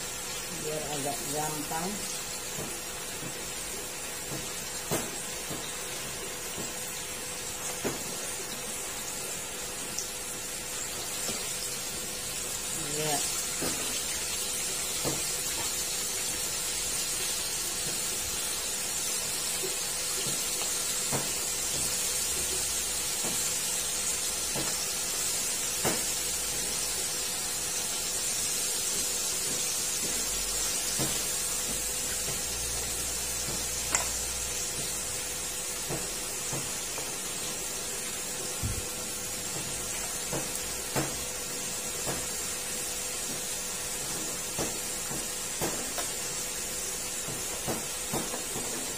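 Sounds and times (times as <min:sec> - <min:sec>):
deep-frying sizzle: 0:00.0 - 0:48.9.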